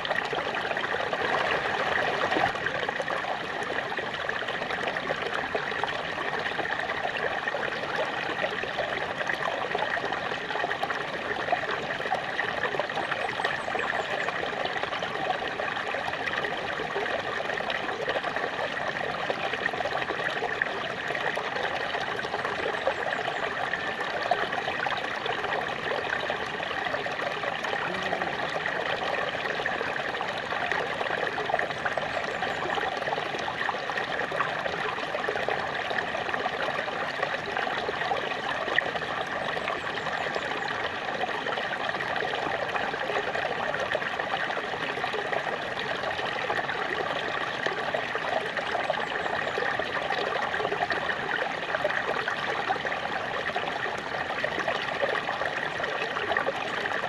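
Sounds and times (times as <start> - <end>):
small waterfall running: 0.0 - 57.0.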